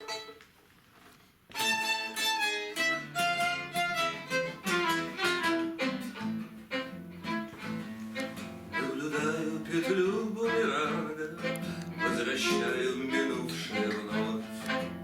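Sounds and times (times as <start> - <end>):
violin melody: 0.0 - 0.5, 1.5 - 15.0
guitar: 0.0 - 15.0
lower bowed string line: 2.8 - 15.0.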